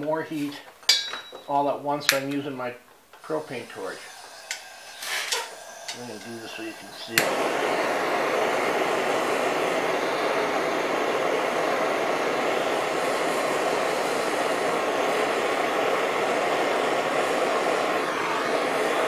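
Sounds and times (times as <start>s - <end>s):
propane torch hissing: 2.0s - 19.0s.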